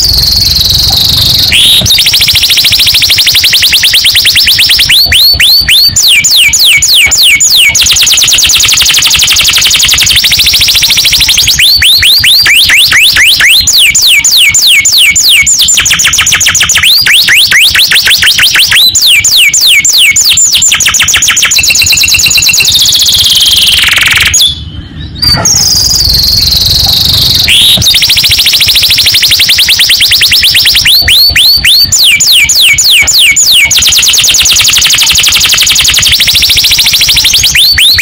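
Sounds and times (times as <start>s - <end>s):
canary singing rapid trills: 0.0s - 38.0s.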